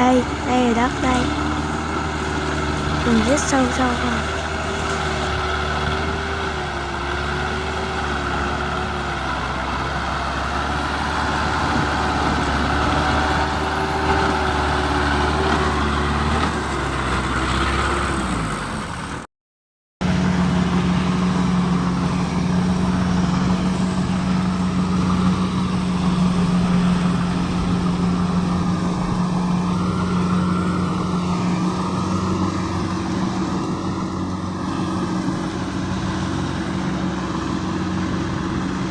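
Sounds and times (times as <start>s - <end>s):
combine harvester diesel engine: 0.0s - 19.3s, 20.0s - 38.9s.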